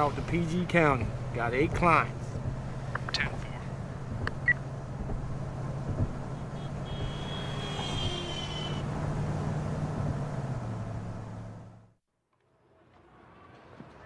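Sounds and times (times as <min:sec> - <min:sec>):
van engine drone: 0:00.0 - 0:12.0
road noise: 0:00.0 - 0:14.0.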